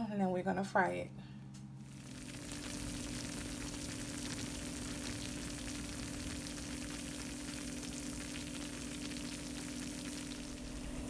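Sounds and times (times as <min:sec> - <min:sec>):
low hum: 0:01.1 - 0:11.0
food sizzling: 0:01.8 - 0:11.0.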